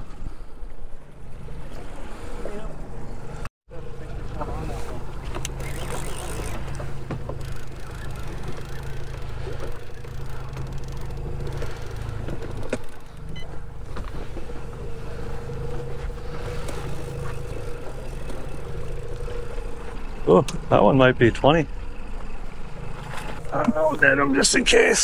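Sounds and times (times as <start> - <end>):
boat motor running steadily: 0.0 - 25.0
water noise: 0.0 - 25.0
wind: 0.0 - 25.0.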